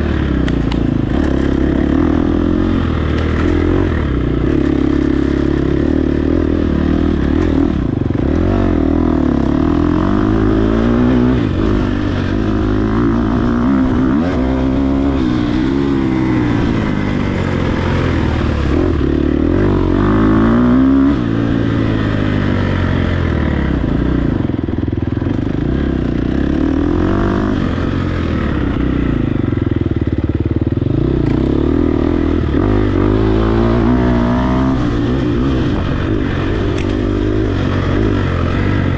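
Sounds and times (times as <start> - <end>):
dirt bike engine revving: 0.0 - 24.5, 25.3 - 38.9.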